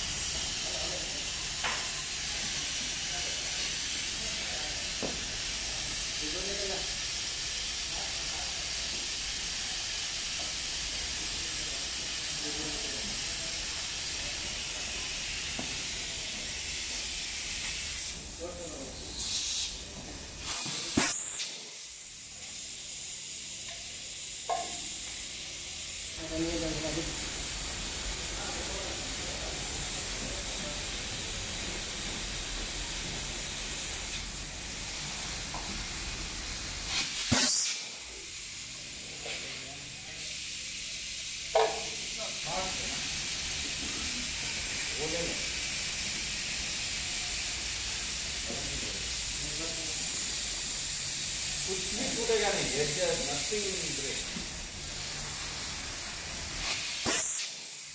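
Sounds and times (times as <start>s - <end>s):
loud burst of air: 0.0s - 57.9s
steady high hiss: 0.0s - 57.9s.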